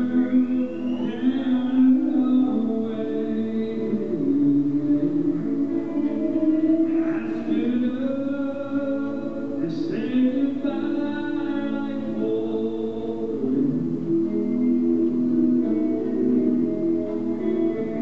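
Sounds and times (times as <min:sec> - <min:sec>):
man singing with band: 0:00.0 - 0:14.4
pedal steel guitar: 0:00.0 - 0:18.0.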